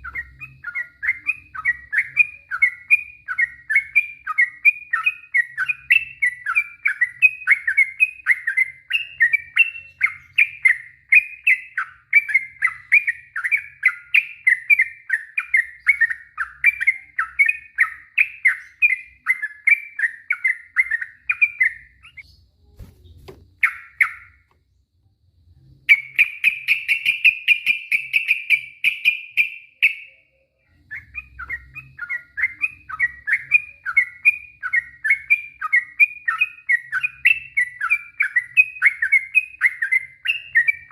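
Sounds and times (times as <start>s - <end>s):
bird trilling: 0.0s - 24.5s, 30.8s - 40.9s
bird chirping: 0.0s - 40.9s.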